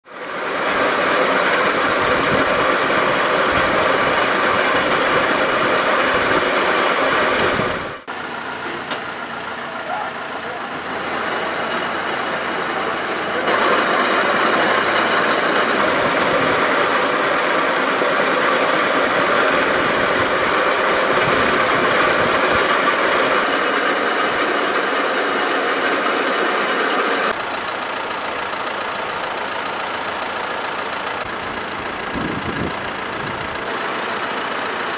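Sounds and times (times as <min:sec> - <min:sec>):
conveyor loading fertiliser: 0:00.1 - 0:34.9
tractor diesel engine idling: 0:00.1 - 0:34.9.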